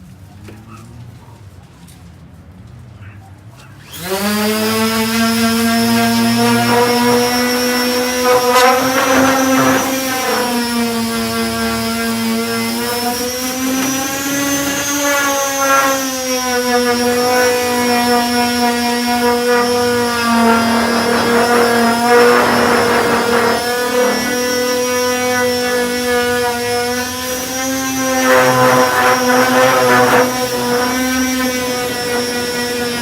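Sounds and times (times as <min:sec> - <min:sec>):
power sander running: 0:03.8 - 0:33.0
sanding disc scraping surface: 0:04.6 - 0:33.0.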